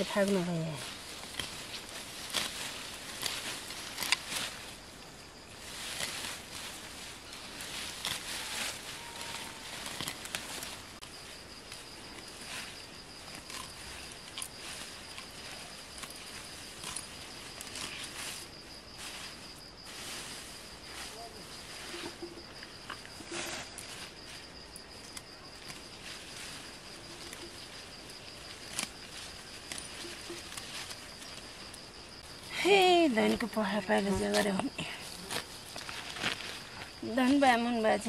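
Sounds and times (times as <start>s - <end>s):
leafy plants rustling and snapping: 0.0s - 5.0s, 5.6s - 32.4s, 33.2s - 37.5s
insect trilling: 0.0s - 38.0s.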